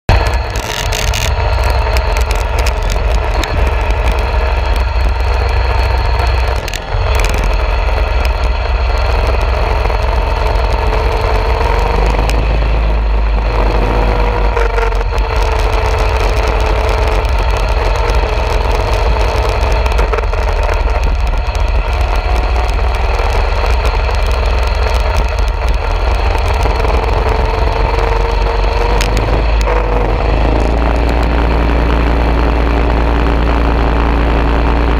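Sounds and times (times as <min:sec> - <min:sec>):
mini bike engine running: 0:00.1 - 0:34.9
wind rumble on microphone: 0:00.1 - 0:34.9.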